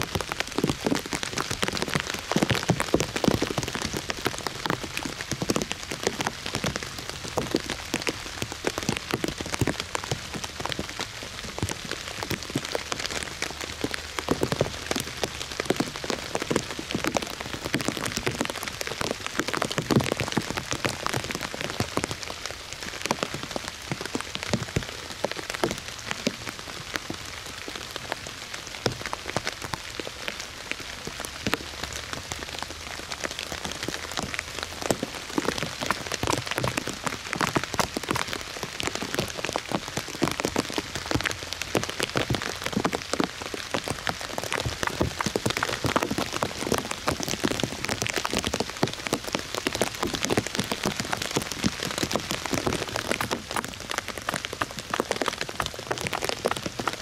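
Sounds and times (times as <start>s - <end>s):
rain pattering on dry leaves: 0.0s - 57.0s.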